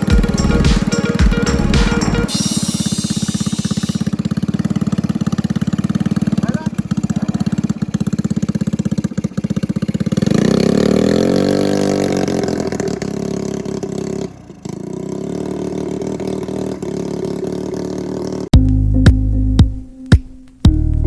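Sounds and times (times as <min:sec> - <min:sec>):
small combustion engine running: 0:00.0 - 0:18.5.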